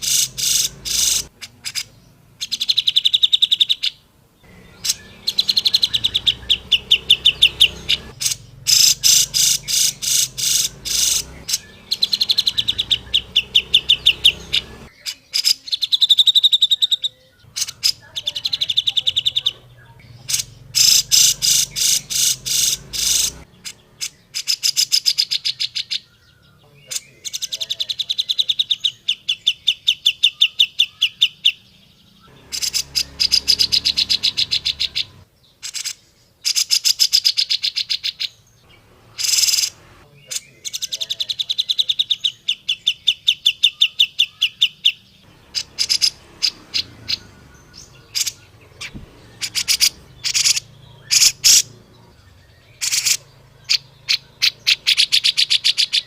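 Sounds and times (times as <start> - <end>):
bird singing chattering trills: 0.0 - 56.0.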